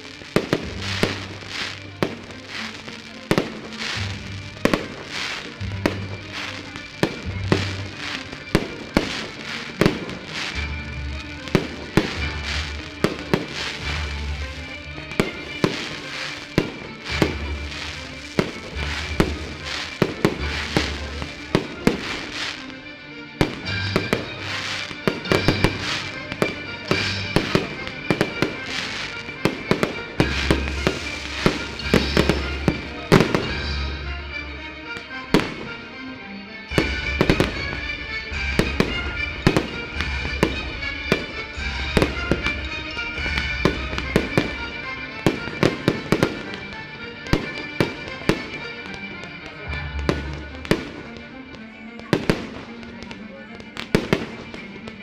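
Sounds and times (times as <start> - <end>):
fireworks bangs and crackles: 0.0 - 35.9, 36.7 - 55.0.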